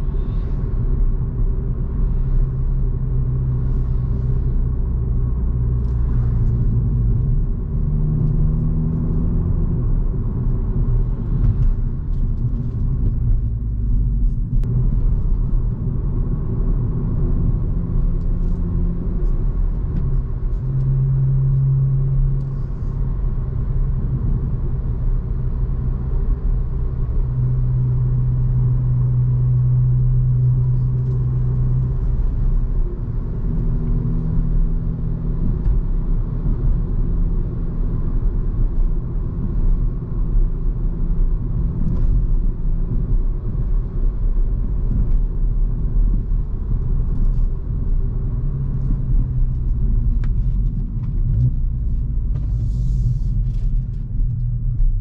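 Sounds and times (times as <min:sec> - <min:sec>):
car engine hum: 0:00.0 - 0:55.0.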